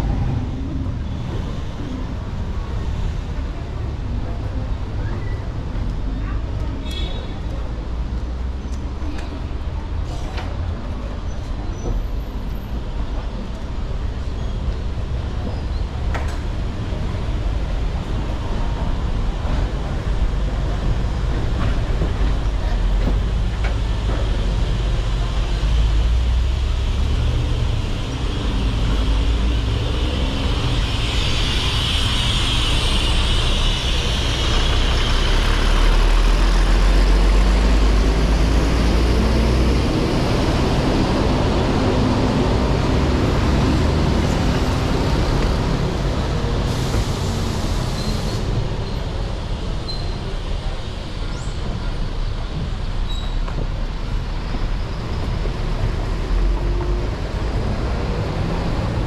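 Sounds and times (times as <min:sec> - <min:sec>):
vehicle engines passing: 0:07.4 - 0:59.0.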